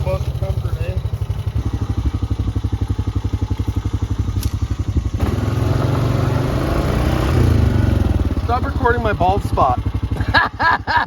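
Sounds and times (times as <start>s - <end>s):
small vehicle engine puttering: 0.0s - 11.0s.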